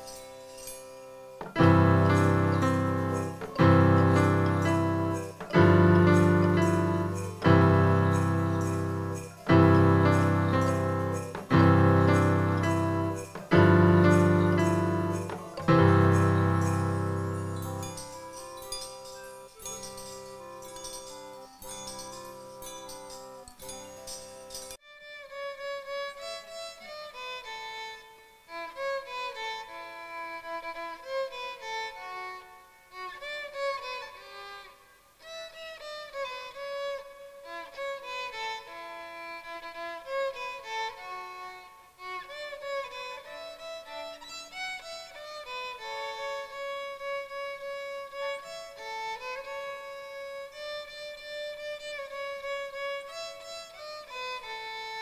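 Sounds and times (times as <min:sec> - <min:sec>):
solo violin slow melody: 0:01.4 - 0:18.5, 0:24.8 - 0:55.0.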